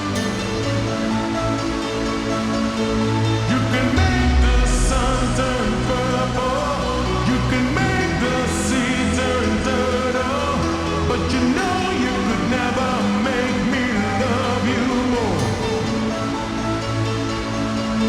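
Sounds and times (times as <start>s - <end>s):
person singing over electronic music: 0.0s - 18.0s
steady low bass: 0.0s - 18.0s.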